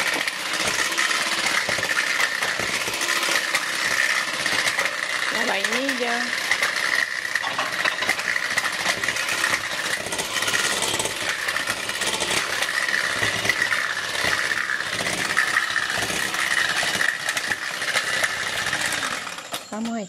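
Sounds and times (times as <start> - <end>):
beaters churning batter: 0.0 - 19.6
electric hand mixer whining: 0.0 - 20.0.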